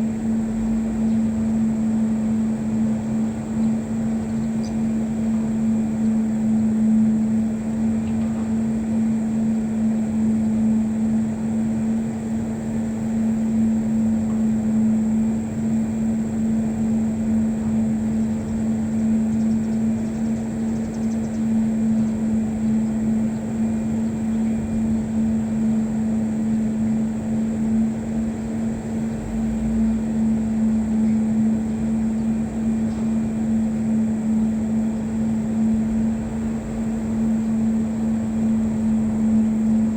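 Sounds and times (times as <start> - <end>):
mechanical humming drone: 0.0 - 39.9.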